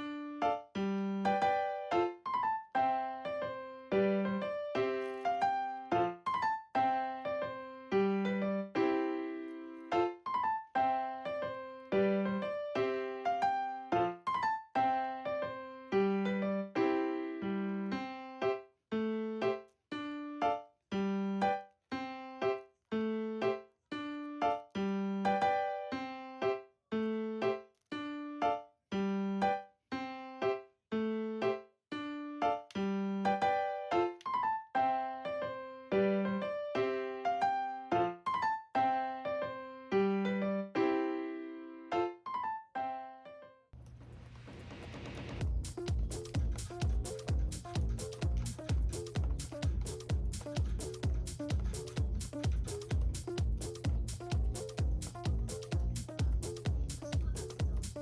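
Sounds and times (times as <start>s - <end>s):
light keyboard tune: 0.0s - 18.3s, 19.0s - 43.4s, 45.4s - 58.0s.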